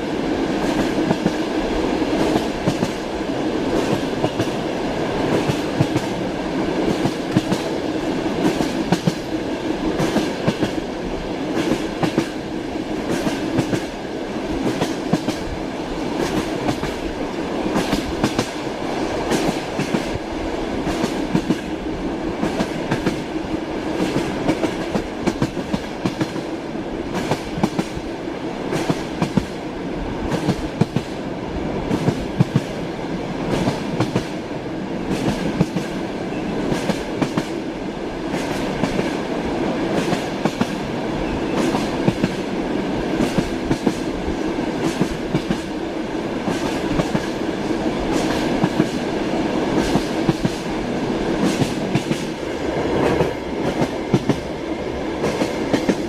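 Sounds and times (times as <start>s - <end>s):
passenger train rumble: 0.0s - 56.0s.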